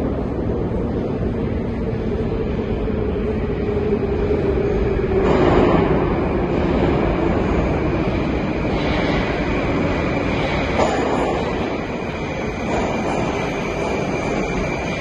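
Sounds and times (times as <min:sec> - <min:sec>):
metro train approaching: 0:00.0 - 0:15.0.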